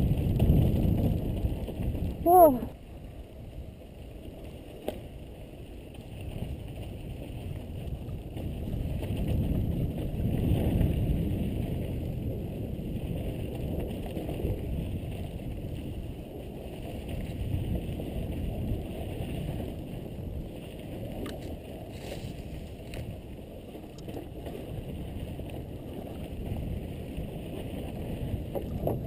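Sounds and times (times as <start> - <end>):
bike rattling: 0.0 - 2.3, 2.9 - 29.0
wind rushing over microphone: 0.0 - 4.4, 5.2 - 29.0.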